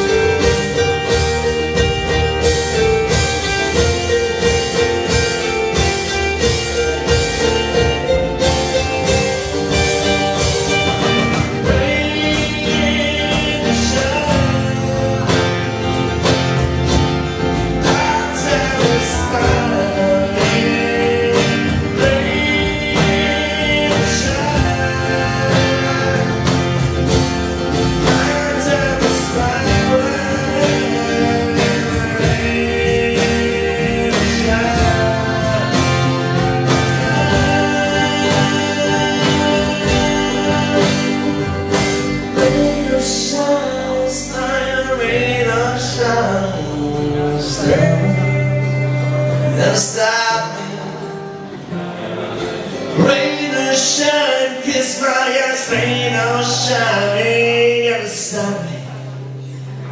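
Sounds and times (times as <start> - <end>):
band playing rock song: 0.0 - 59.9.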